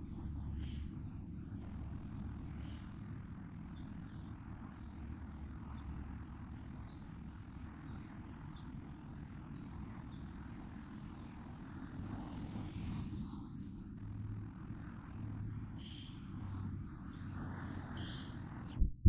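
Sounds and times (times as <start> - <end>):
low vehicle rumble: 0.0 - 19.0.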